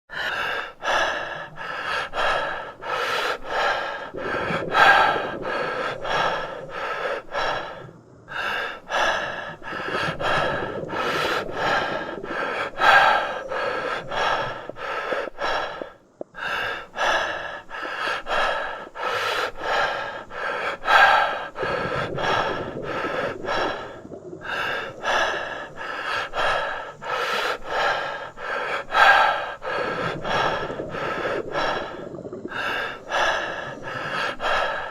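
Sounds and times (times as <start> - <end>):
person breathing hard: 0.1 - 34.9.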